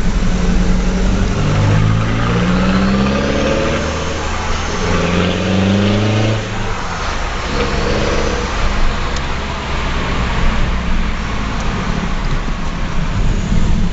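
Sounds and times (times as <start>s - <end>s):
diesel engine revving: 0.0s - 13.9s.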